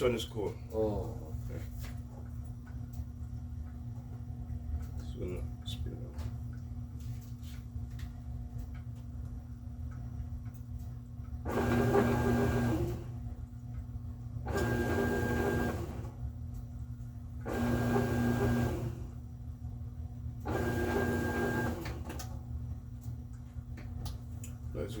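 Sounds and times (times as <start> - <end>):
steady low hum: 0.0 - 25.0
washing machine motor pulsing: 0.0 - 25.0.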